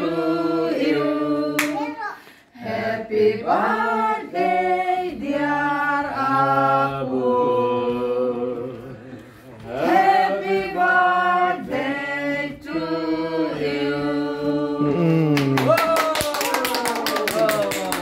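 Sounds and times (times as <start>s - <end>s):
group singing unaccompanied: 0.0s - 1.9s, 2.5s - 15.1s.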